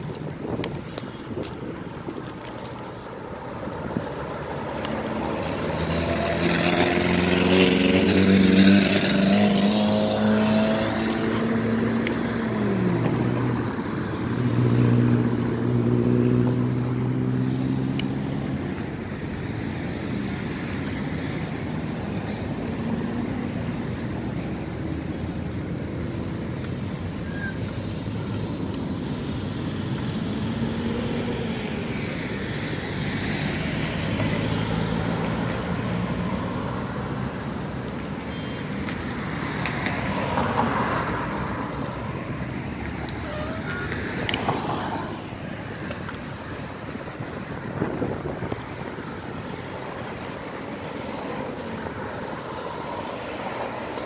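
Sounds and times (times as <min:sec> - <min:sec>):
traffic hum: 0:00.0 - 0:54.0
vehicles passing: 0:00.0 - 0:54.0.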